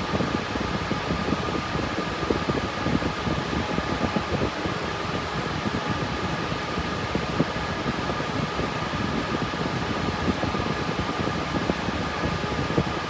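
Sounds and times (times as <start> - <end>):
cooling fans whooshing: 0.0 - 13.0.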